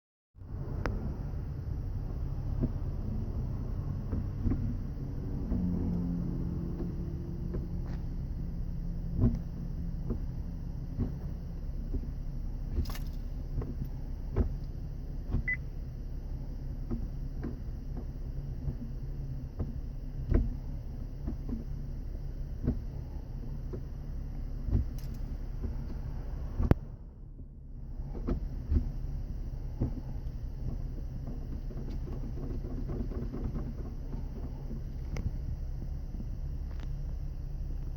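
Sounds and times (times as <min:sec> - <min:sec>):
car engine humming: 0:00.4 - 0:37.9
gear shift clicks and clunks: 0:00.8 - 0:37.9.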